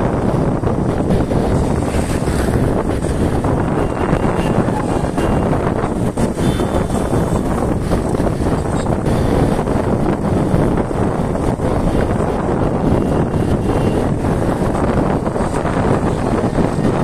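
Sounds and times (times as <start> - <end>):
motorcycle road and engine noise: 0.0 - 17.0
wind buffeting microphone: 0.0 - 17.0.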